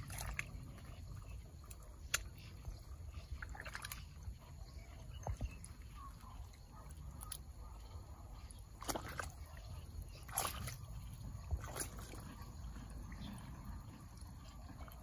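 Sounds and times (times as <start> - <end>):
hands squelching in wet mud: 0.0 - 13.3
water splashes: 0.0 - 15.0.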